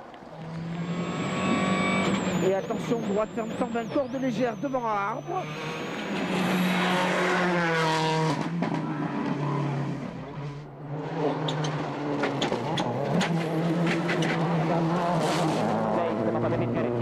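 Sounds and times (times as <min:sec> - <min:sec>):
rally car engine revving: 0:00.2 - 0:17.0.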